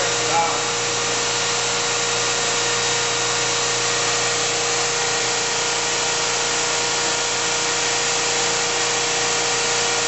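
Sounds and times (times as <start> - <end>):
surface grinder humming and whining: 0.0 - 10.0.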